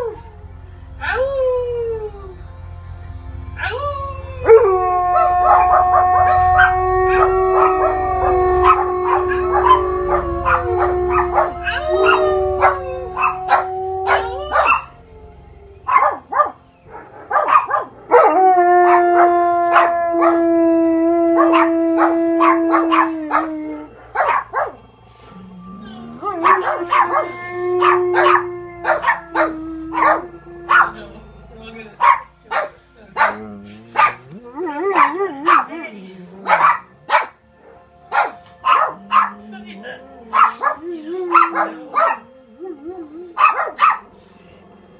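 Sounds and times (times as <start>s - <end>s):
low film soundtrack rumble: 0.0s - 44.9s
dog howling: 3.6s - 31.2s, 32.0s - 37.3s, 38.2s - 44.2s.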